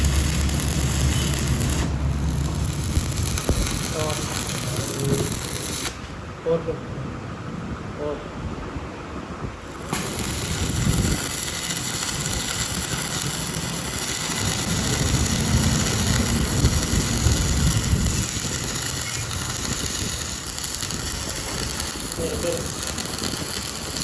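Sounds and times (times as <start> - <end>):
workshop machinery running: 0.0 - 6.2, 9.6 - 24.0.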